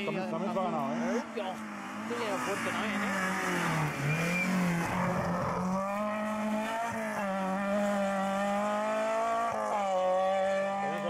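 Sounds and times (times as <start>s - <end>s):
rally car engine accelerating: 0.3s - 11.0s.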